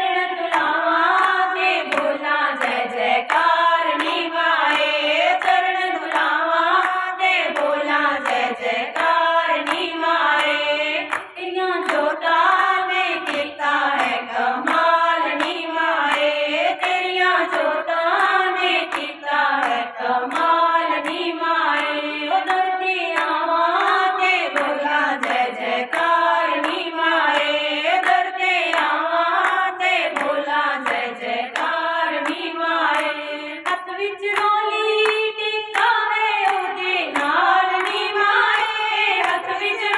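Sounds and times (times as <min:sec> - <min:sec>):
women singing devotional song: 0:00.0 - 0:39.9
hands clapping steady beat: 0:00.1 - 0:39.9.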